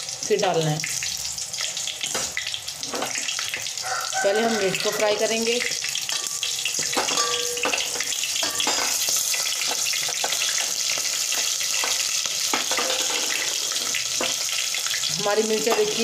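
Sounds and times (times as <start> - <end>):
chillies sizzling in hot oil: 0.0 - 16.0.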